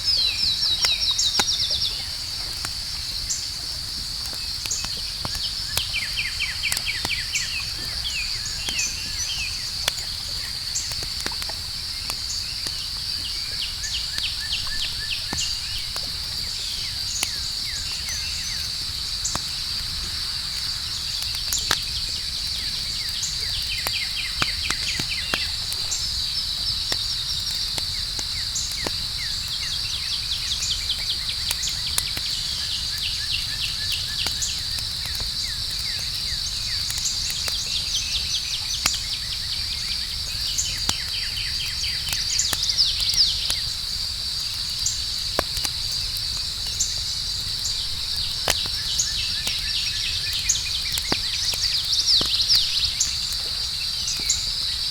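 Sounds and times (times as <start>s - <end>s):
campfire crackling and popping: 0.0s - 54.9s
crickets trilling: 0.0s - 54.9s.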